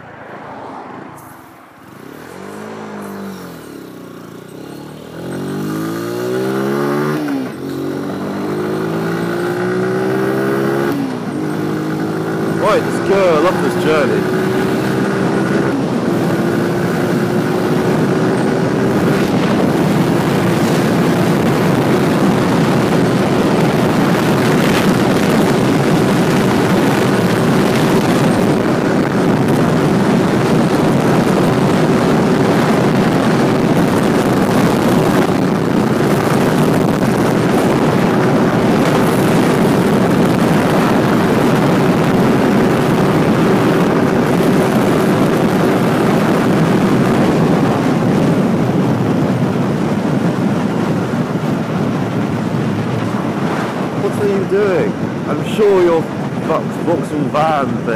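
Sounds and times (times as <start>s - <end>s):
rushing wind noise: 0.0s - 57.9s
motorcycle engine running: 1.5s - 55.4s.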